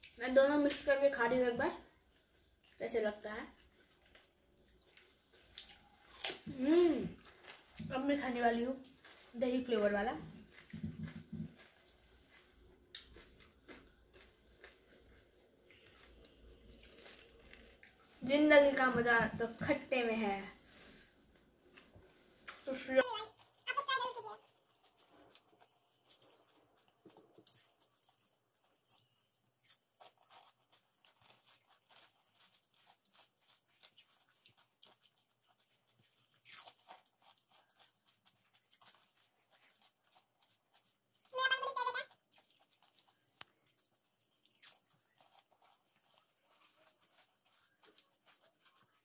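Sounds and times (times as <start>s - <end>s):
crunching and chewing: 1.7s - 20.6s, 21.2s - 49.0s.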